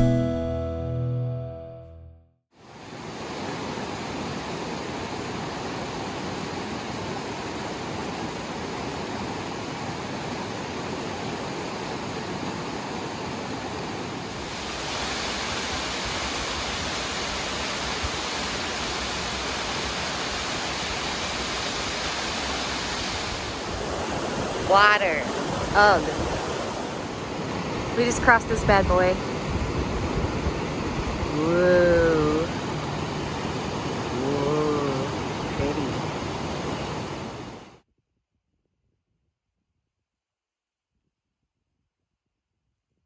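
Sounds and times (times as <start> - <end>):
creek rushing over rocks: 2.6 - 37.8
waterfall rushing: 2.6 - 37.8.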